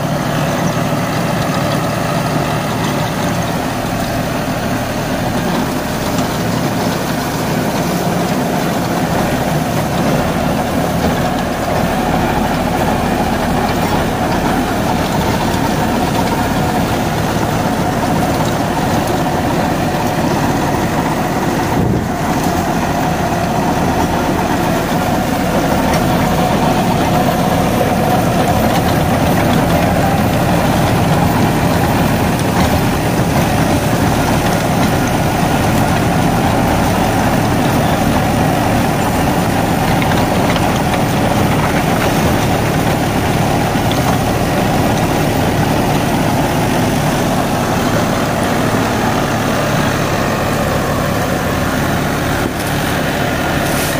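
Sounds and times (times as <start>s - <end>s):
rotavator tines churning soil: 0.0s - 53.9s
tractor diesel engine under load: 0.0s - 53.9s.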